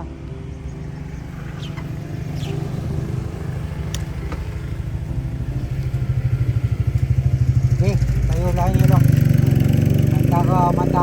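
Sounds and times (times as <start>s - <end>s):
motorcycle engine idling: 0.5s - 11.0s.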